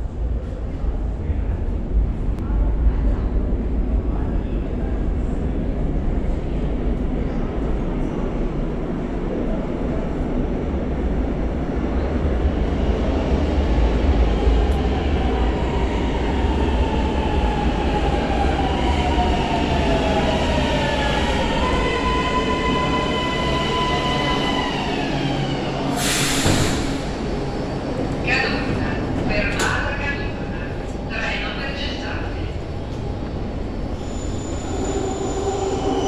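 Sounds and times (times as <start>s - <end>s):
train low rumble: 0.0s - 36.0s.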